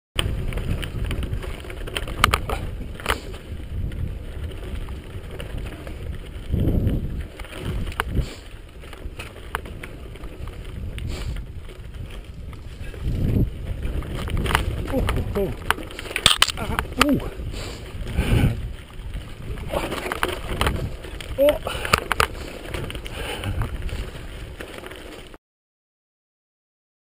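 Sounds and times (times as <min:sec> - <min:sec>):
wind on microphone: 0:00.2 - 0:24.6
bike rattling over stones: 0:00.2 - 0:25.4
tyres rumbling on gravel: 0:00.2 - 0:25.4.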